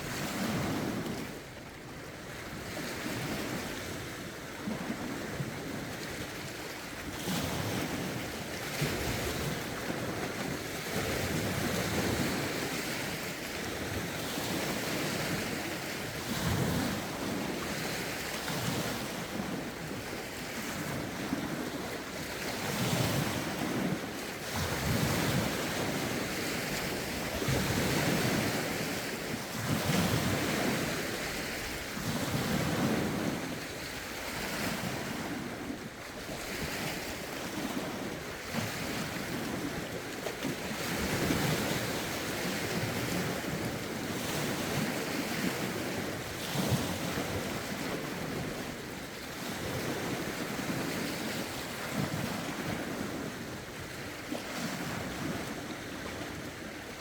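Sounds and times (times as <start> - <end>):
lake waves lapping on shore: 0.0 - 57.0
wind rumbling on microphone: 0.0 - 57.0.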